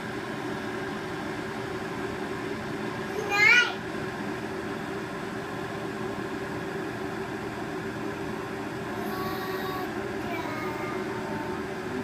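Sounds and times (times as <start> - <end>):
electric kettle heating water: 0.0 - 12.0.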